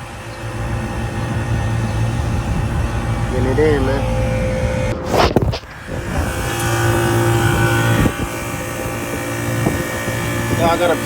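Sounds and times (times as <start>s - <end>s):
hvac unit mechanical hum: 0.0s - 11.0s.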